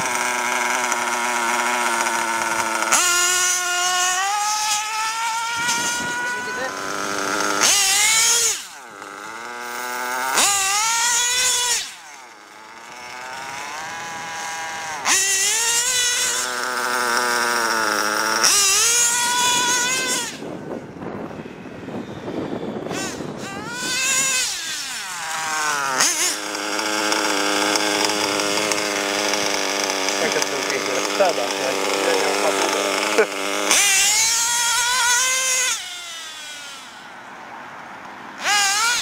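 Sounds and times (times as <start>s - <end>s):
small nitro engine revving: 0.0s - 37.4s, 38.4s - 39.0s.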